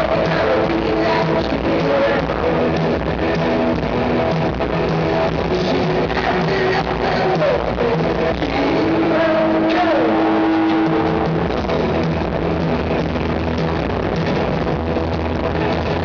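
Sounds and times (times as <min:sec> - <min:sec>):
live rock band playing: 0:00.0 - 0:16.0
steady low bass: 0:00.0 - 0:16.0.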